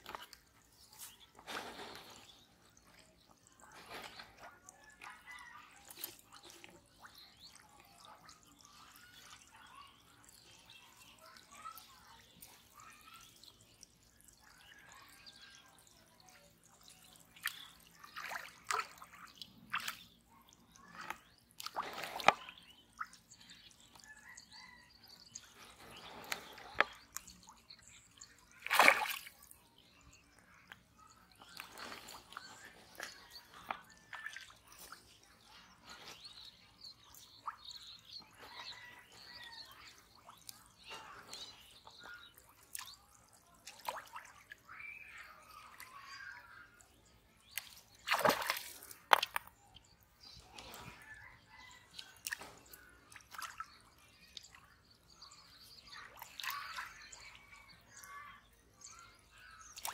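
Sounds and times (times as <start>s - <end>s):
water dripping and splashing: 0.0s - 59.9s.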